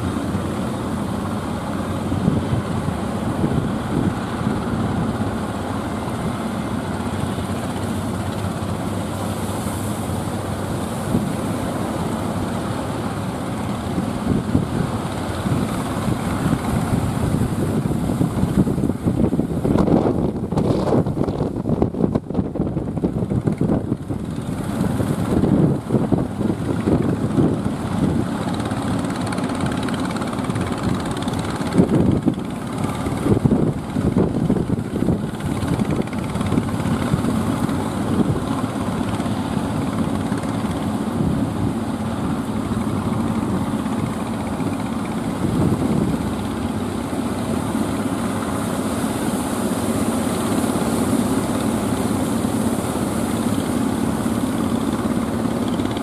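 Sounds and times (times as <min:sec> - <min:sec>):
boat engine running: 0:00.0 - 0:56.0
surf rushing: 0:00.0 - 0:56.0
wind: 0:00.0 - 0:56.0.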